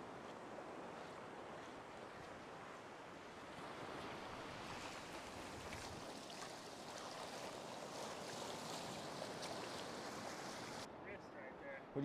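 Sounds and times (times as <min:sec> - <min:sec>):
surf washing up beach: 0:00.0 - 0:11.6.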